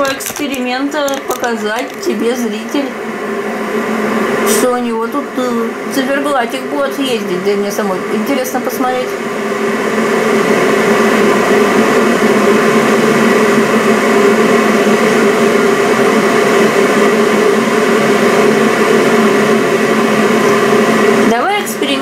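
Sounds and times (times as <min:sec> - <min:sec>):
electric kettle heating water: 0:00.0 - 0:22.0.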